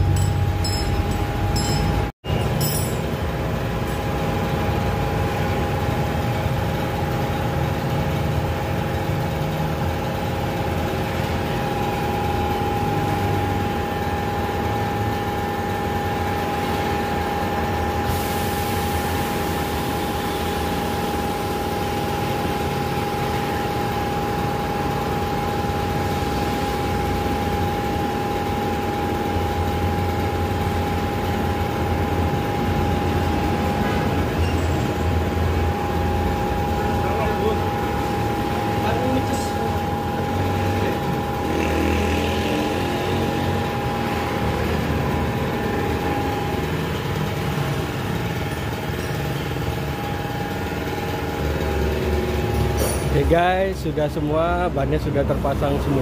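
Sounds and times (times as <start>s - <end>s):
air compressor humming and whining: 0.0s - 56.0s.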